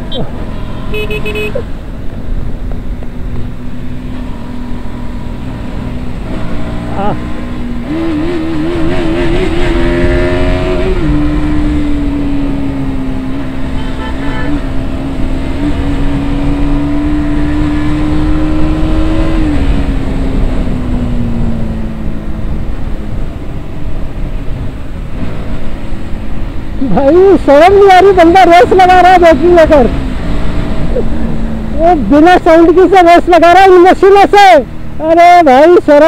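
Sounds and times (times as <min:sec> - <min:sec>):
motorcycle engine droning: 0:00.0 - 0:32.8.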